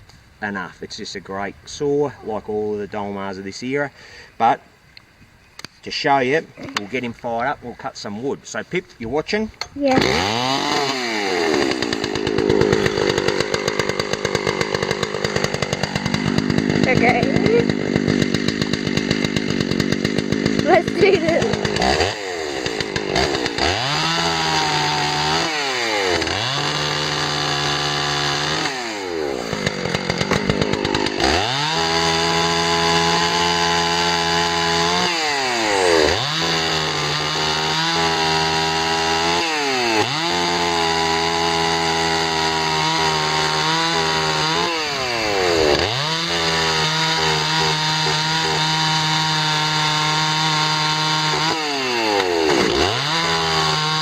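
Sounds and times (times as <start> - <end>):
chainsaw cutting wood: 9.6 - 54.0.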